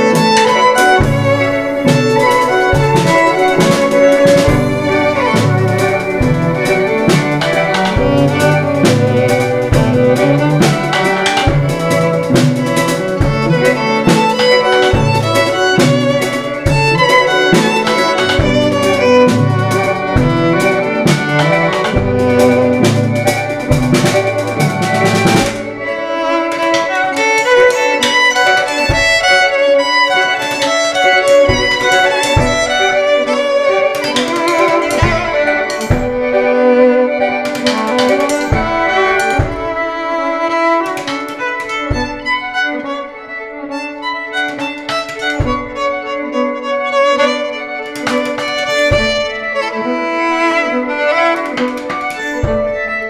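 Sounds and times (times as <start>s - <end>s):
drum kit: 0.0s - 43.0s, 43.7s - 46.2s, 47.1s - 53.0s
violin playing: 0.0s - 53.0s.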